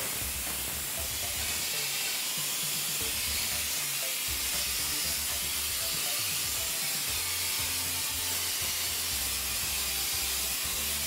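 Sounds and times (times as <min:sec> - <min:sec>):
spray gun hissing: 0:00.0 - 0:10.3.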